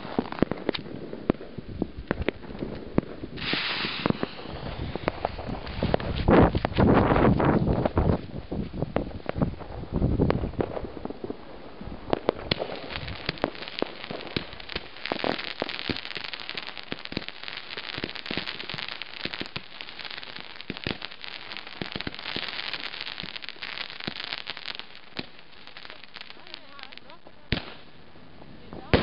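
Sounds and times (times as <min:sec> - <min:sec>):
fireworks sharp bangs: 0:00.0 - 0:08.0, 0:09.0 - 0:29.0
fireworks rapid pops and crackling: 0:00.0 - 0:29.0.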